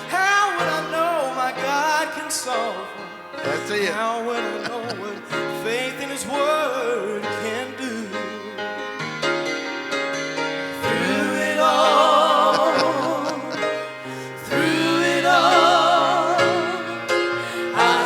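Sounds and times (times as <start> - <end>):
gospel singing with vibrato: 0.0 - 18.0
keyboard accompaniment: 0.0 - 18.0.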